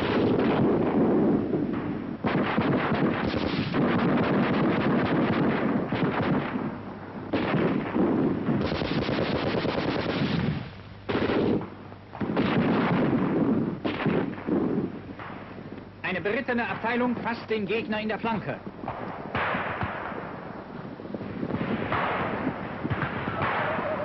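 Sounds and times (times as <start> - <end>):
machine-gun fire: 0.0 - 15.5, 16.1 - 20.4, 21.4 - 24.0.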